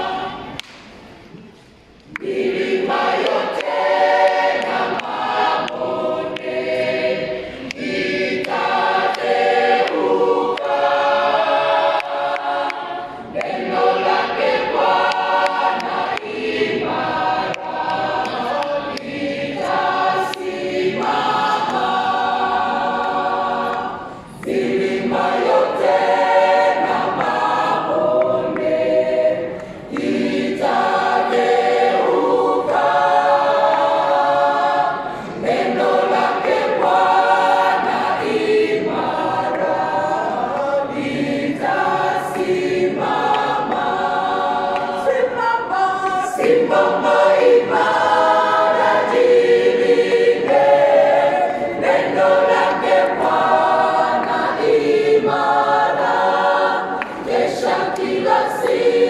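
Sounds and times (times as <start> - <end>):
mixed choir singing gospel: 0.0 - 59.0.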